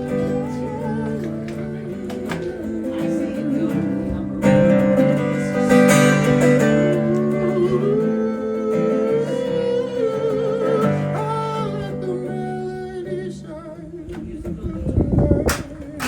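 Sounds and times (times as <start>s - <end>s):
plucked guitar lead: 0.0s - 14.6s.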